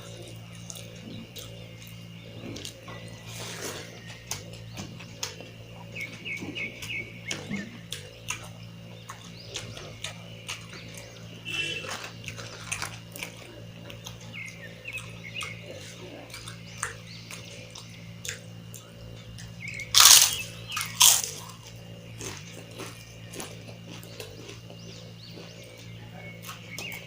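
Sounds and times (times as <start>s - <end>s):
chewing and lip-smacking: 0.0s - 27.0s
steady low hum: 0.0s - 27.0s.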